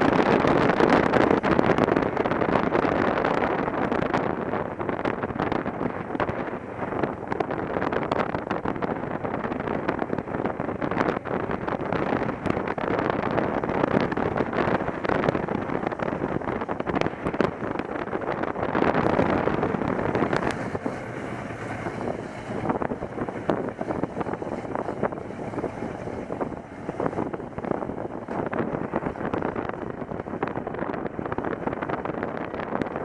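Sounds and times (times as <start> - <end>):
motorcycle running: 0.0 - 33.0
wind buffeting microphone: 0.0 - 33.0.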